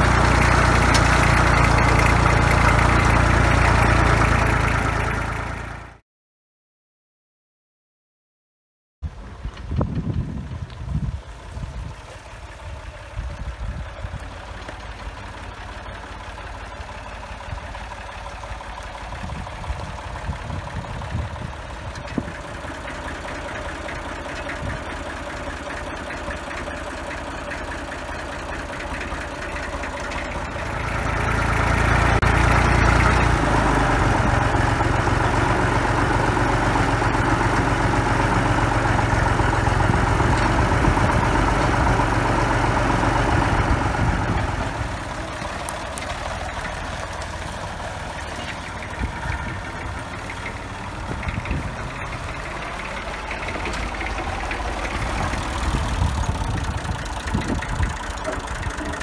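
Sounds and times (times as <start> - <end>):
tractor diesel engine running: 0.0 - 6.0, 9.1 - 59.0.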